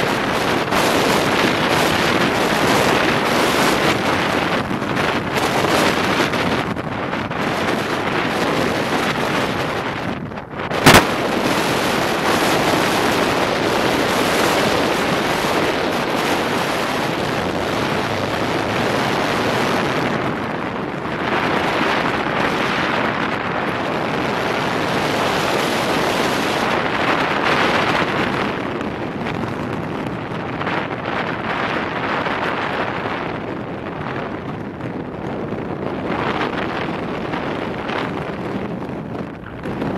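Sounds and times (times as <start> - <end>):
car road and wind noise: 0.0 - 39.9
wind buffeting microphone: 0.0 - 39.9.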